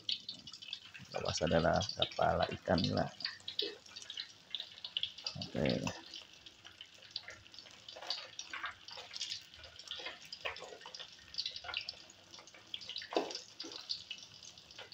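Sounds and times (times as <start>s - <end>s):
oil sizzling and popping: 0.0s - 14.9s.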